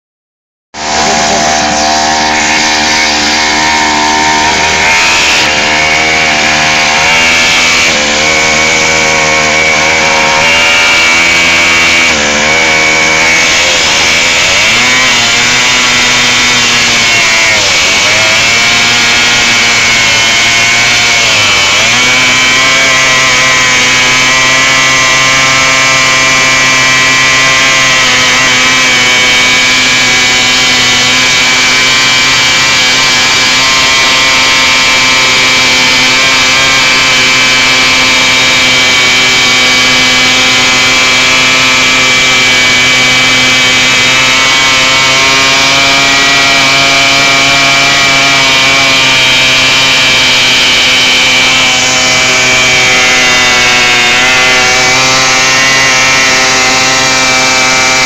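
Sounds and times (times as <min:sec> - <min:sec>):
two-stroke engine revving high: 0:00.7 - 0:58.0.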